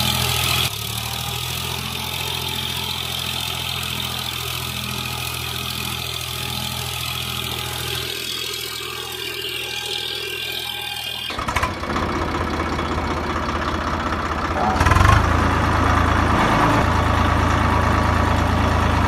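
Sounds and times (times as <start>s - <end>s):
tractor engine: 0.0s - 19.0s.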